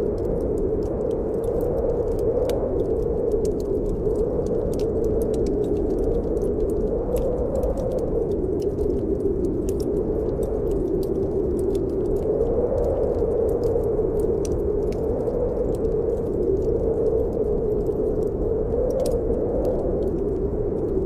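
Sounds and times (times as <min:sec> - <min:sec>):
wind blowing: 0:00.0 - 0:21.0
wood fire crackling: 0:00.0 - 0:21.0.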